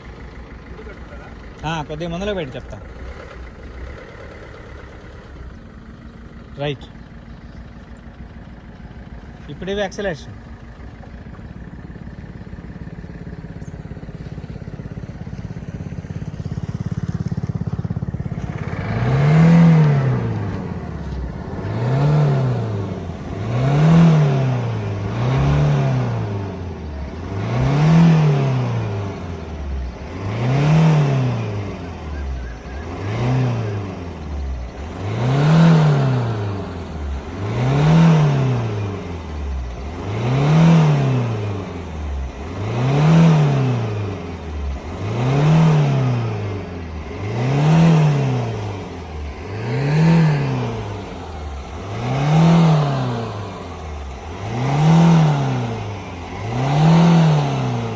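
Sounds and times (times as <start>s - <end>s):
diesel engine idling and revving: 0.0s - 57.9s.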